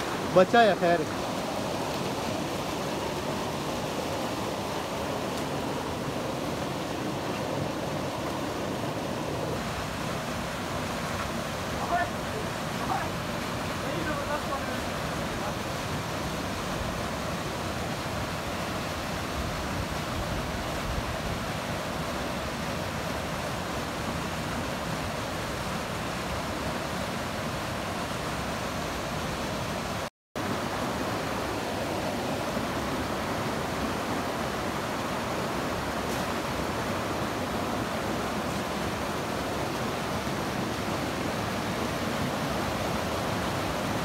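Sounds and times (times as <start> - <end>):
stream water running: 0.0 - 44.0.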